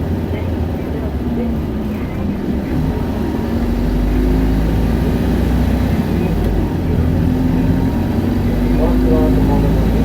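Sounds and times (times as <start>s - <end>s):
bus diesel engine accelerating: 0.0s - 10.0s
road noise: 0.0s - 10.0s.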